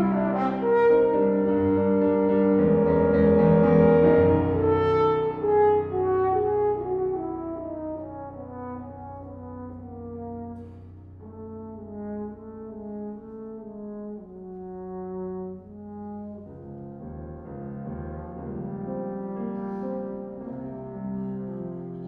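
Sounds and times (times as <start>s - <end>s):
french horn melody: 0.0s - 22.0s
piano bass notes: 0.0s - 22.0s.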